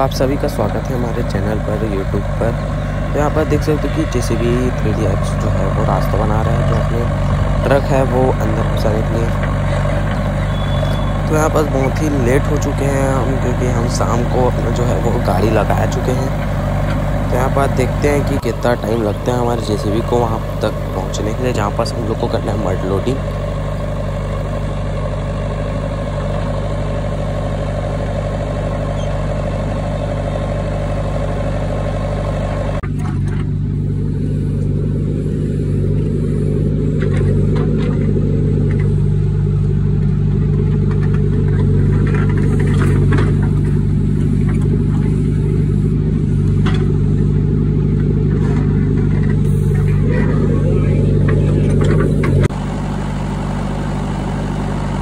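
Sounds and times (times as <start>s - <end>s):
backhoe digging soil: 0.0s - 55.0s
diesel engine running: 0.0s - 55.0s.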